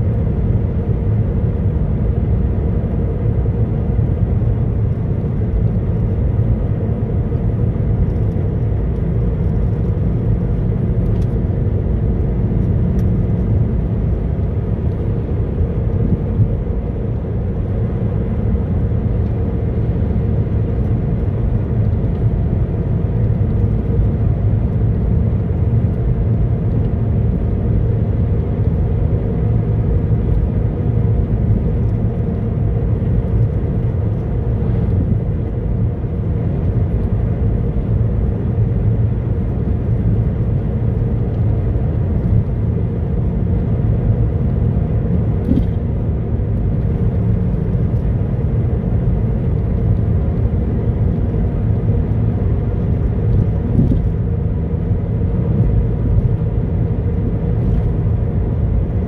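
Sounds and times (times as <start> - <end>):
car road noise from cabin: 0.0 - 59.0.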